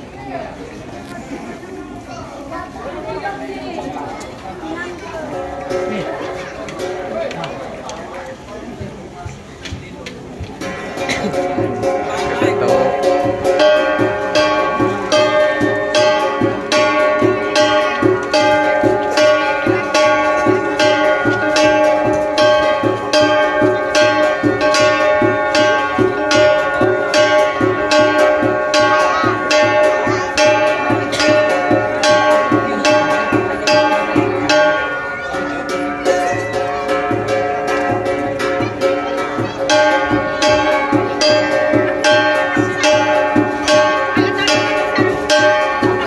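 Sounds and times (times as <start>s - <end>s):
gongs struck in steady rhythm: 5.1s - 9.2s, 10.3s - 46.0s.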